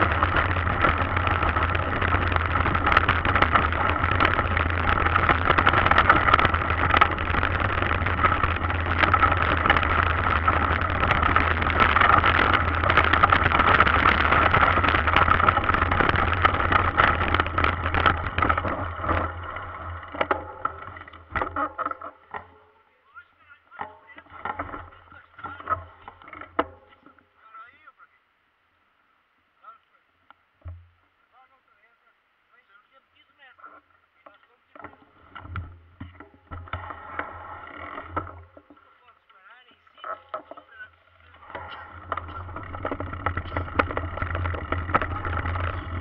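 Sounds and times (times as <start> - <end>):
bike tyre rumble on gravel: 0.0 - 22.8, 23.4 - 27.2, 34.8 - 46.0
clicks and rattles over stones: 0.0 - 22.8, 23.8 - 27.2, 33.6 - 46.0.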